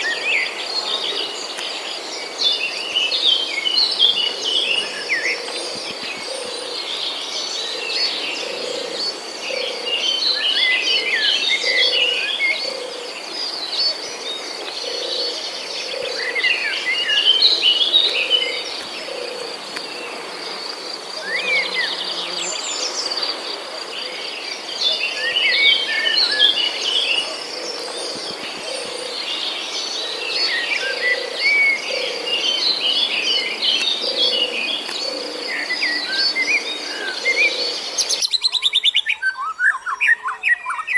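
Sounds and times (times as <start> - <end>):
birds chirping and calling: 0.0 - 40.9.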